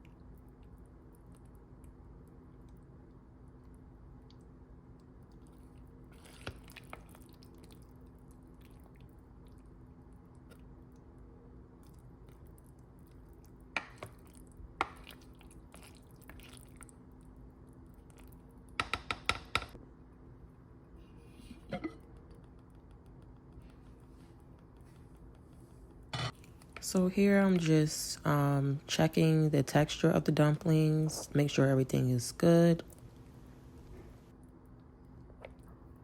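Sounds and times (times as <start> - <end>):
faint room hum: 0.0 - 36.0.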